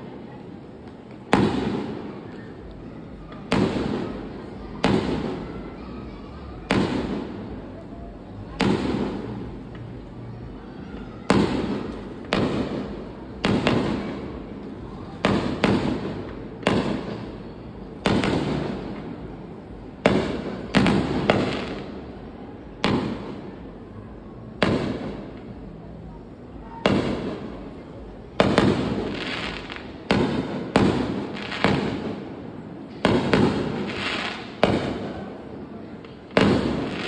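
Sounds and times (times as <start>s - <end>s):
fireworks bangs: 0.8s - 5.7s, 6.4s - 7.6s, 8.4s - 10.1s, 11.3s - 23.8s, 24.6s - 25.7s, 26.5s - 37.0s.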